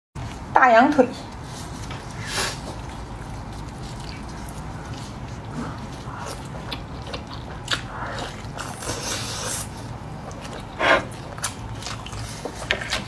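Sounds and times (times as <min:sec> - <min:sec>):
biting and wet chewing: 0:00.2 - 0:13.0.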